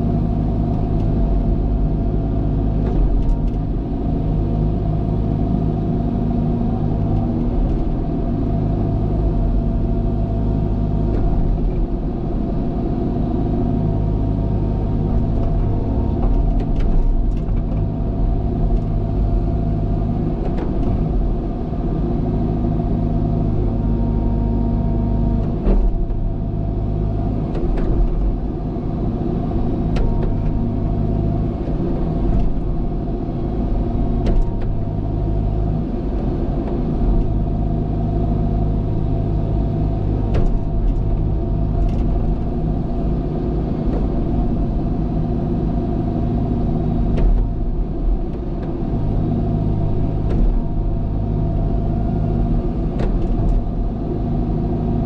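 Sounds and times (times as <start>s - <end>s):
heavy diesel engine under load: 0.0s - 55.0s.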